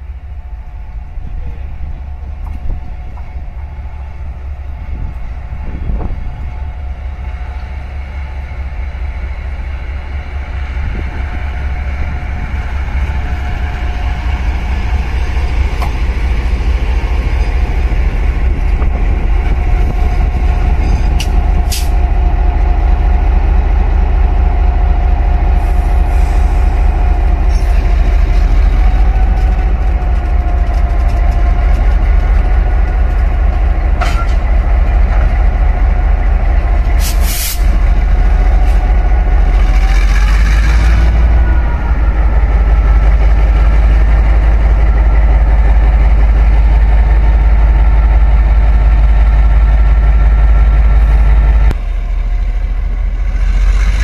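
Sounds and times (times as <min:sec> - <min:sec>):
locomotive engine rumble: 0:00.0 - 0:54.0.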